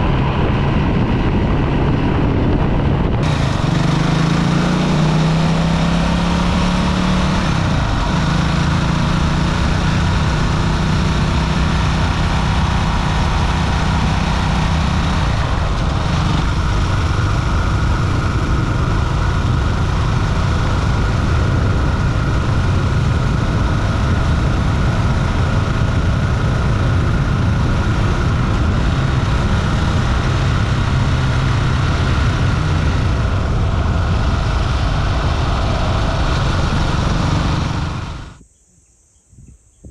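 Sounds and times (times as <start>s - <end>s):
motorcycle engine running: 0.0s - 38.4s.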